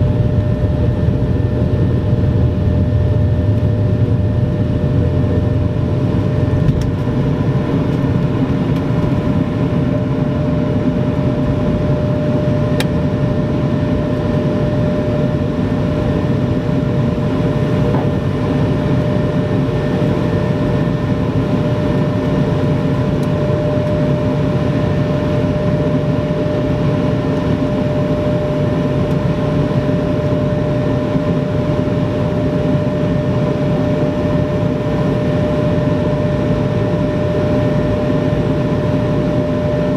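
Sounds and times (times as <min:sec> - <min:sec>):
jet engine drone in cabin: 0:00.0 - 0:39.9
steady engine whine: 0:00.0 - 0:39.9.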